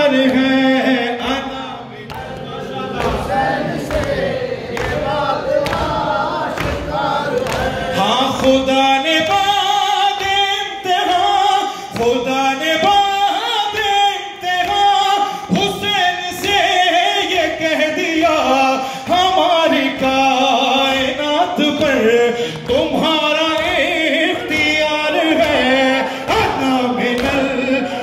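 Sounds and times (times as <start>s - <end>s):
man singing a mourning lament: 0.0s - 2.8s, 7.7s - 28.0s.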